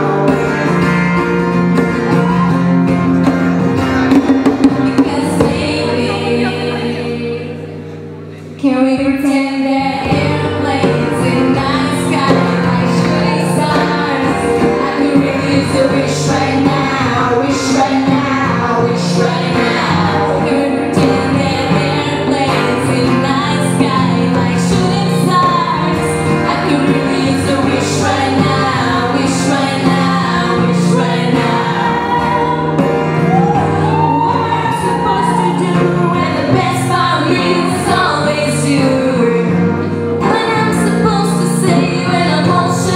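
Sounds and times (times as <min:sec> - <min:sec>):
acoustic guitar strumming: 0:00.0 - 0:42.9
two women singing a pop song: 0:04.8 - 0:07.9, 0:08.6 - 0:42.9.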